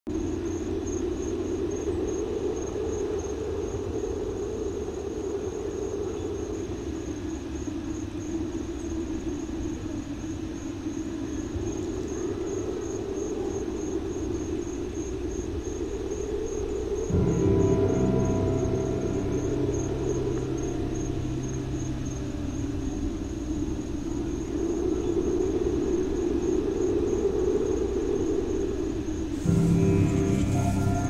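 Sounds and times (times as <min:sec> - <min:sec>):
low drone with rumble: 0:00.2 - 0:31.0.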